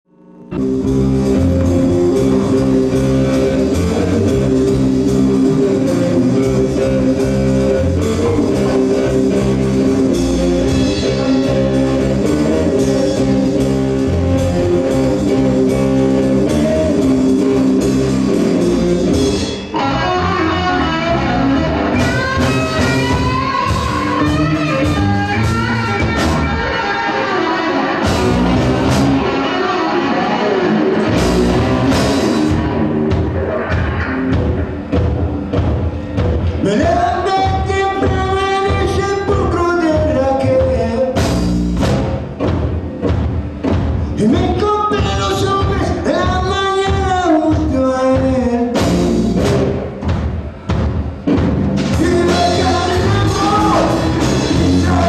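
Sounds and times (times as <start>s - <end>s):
instrumental rock band: 0.3s - 55.0s.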